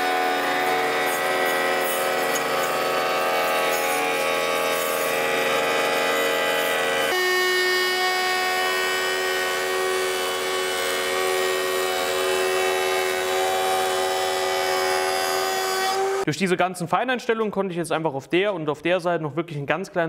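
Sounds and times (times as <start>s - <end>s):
router motor whining: 0.0s - 16.3s.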